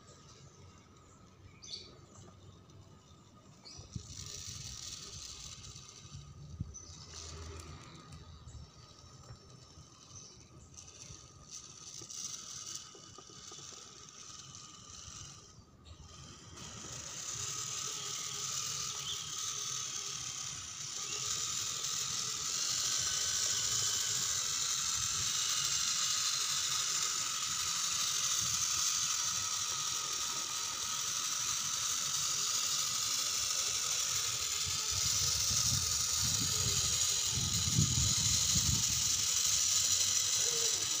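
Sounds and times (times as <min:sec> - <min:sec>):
toy car motor whirring: 0:00.0 - 0:41.0.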